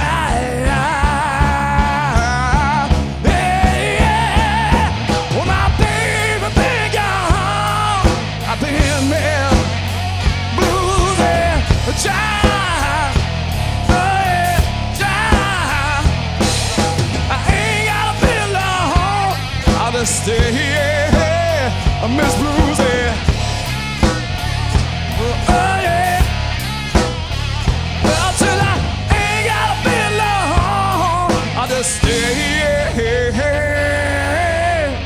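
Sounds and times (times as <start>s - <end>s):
blues-rock band playing: 0.0s - 35.0s
lead guitar with bends: 0.0s - 35.0s.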